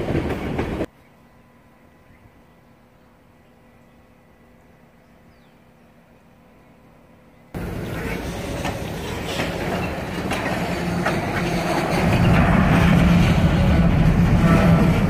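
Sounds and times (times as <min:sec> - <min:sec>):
freight train wheels rumbling: 0:00.0 - 0:00.9, 0:01.8 - 0:15.0.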